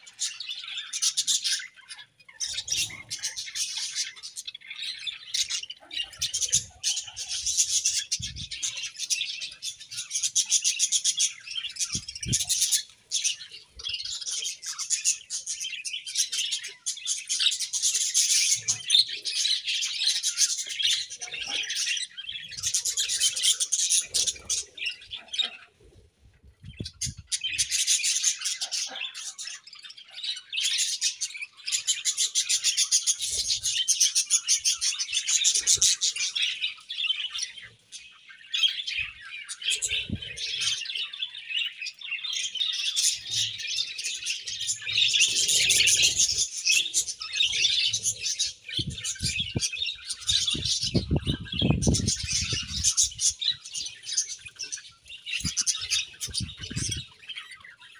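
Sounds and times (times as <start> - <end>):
budgerigars chirping and warbling: 0.0 - 57.9.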